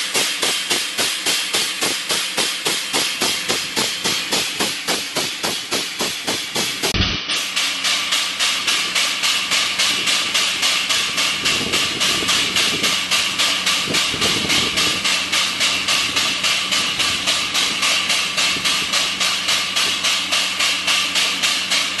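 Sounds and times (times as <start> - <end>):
diaphragm pump exhaust chuffing: 0.0 - 22.0
steady low hum: 2.6 - 21.9.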